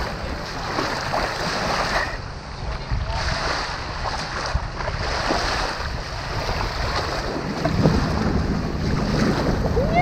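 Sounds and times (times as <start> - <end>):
small waves washing on shore: 0.0 - 10.0
wind buffeting microphone: 0.0 - 10.0.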